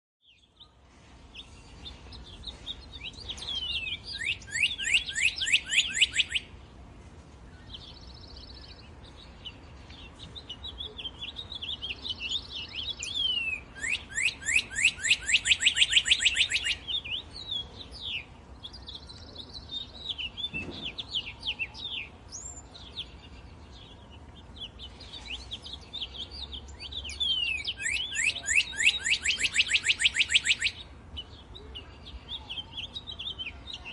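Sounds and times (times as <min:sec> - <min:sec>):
songbirds chirping: 0:00.2 - 0:33.9.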